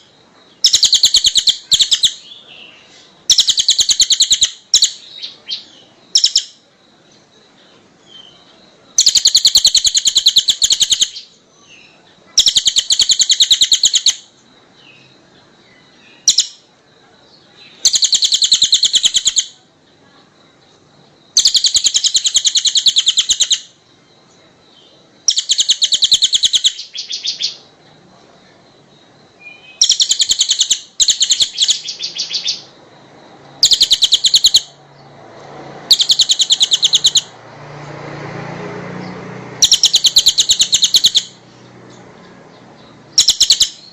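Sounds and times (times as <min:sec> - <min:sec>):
songbird high-pitched trills: 0:00.0 - 0:35.1, 0:35.8 - 0:37.4, 0:39.0 - 0:43.9.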